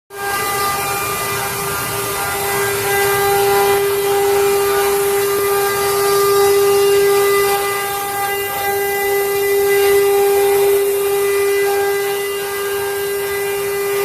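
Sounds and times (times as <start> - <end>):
router spindle high whine: 0.1 - 14.0
hiss of wood cutting: 0.2 - 14.0.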